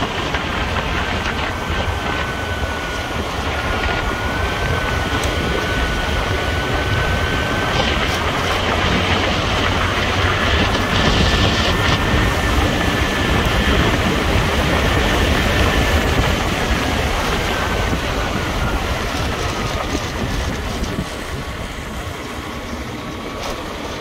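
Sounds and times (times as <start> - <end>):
thin high whine: 0.0 - 24.0
vehicle rumble and road noise: 0.0 - 24.0.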